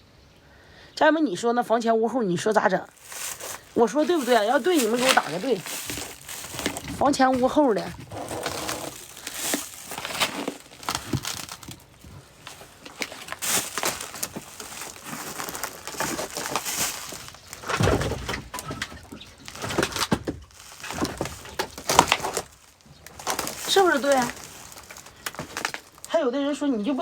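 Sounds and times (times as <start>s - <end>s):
rustling and crinkling of handling: 2.7s - 27.0s.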